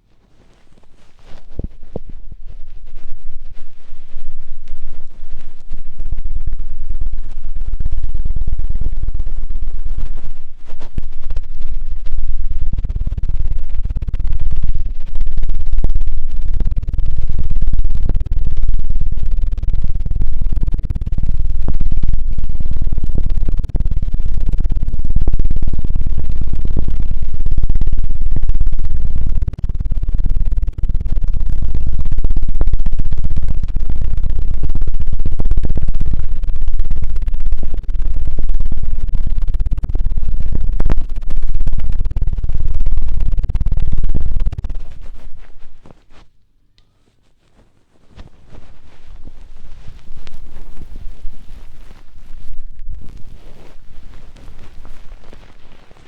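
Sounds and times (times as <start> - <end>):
rubbing on binaural microphone: 0.0 - 56.0.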